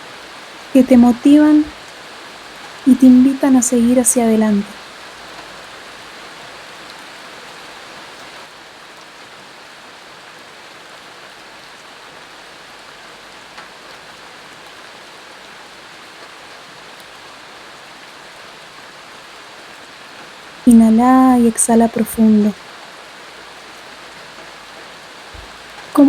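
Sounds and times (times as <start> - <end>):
steady rain patter: 0.0 - 26.0.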